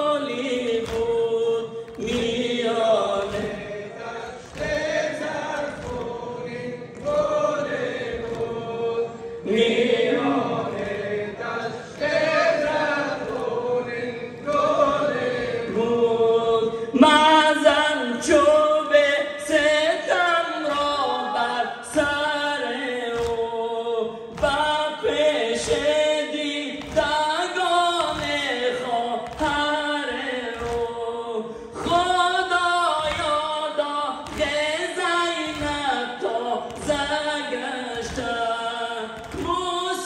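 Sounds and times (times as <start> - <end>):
crowd chanting a lament: 0.0 - 40.0
rhythmic chest-beating slaps: 0.0 - 40.0.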